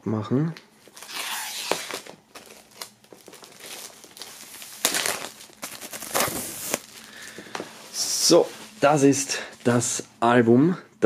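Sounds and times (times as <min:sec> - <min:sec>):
plastic film crinkling: 0:00.8 - 0:10.0.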